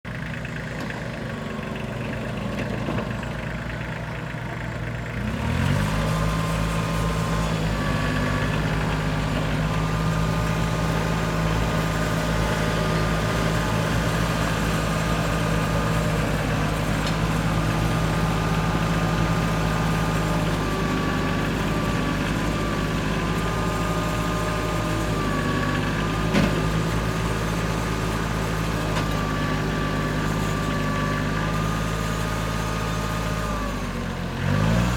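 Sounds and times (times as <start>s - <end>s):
tractor engine idling and revving: 0.0s - 34.9s.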